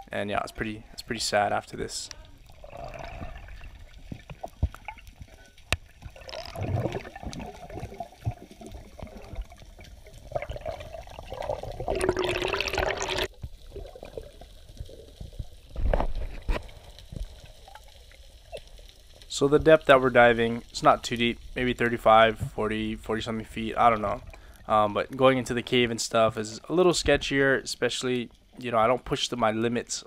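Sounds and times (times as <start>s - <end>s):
underwater rushing and bubbling: 0.0s - 25.9s.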